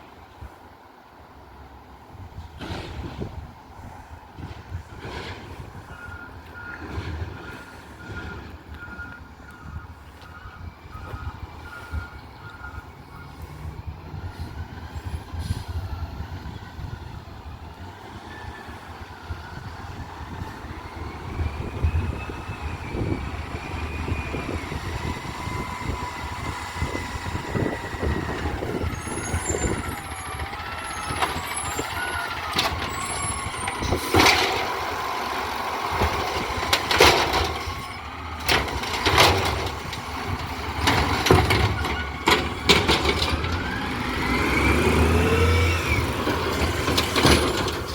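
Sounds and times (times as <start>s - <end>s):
garbage truck whine and rumble: 0.0s - 47.9s.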